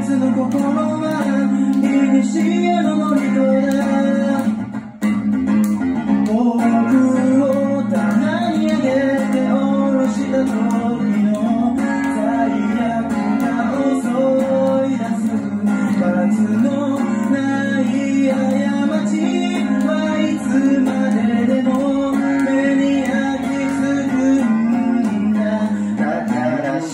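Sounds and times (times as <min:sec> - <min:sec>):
man singing into a microphone: 0:00.0 - 0:04.7, 0:06.1 - 0:26.9
guitar chords: 0:00.0 - 0:26.9.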